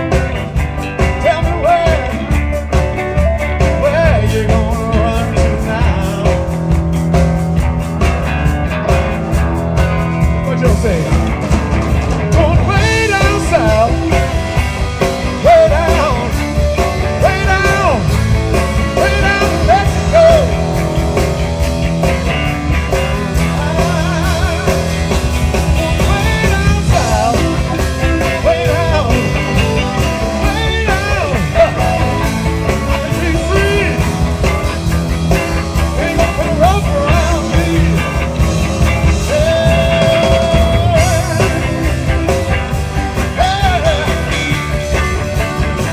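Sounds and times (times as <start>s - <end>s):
bass and drums: 0.0s - 45.9s
electric guitar with bent notes: 0.0s - 45.9s
person singing: 1.0s - 6.8s, 12.3s - 45.9s.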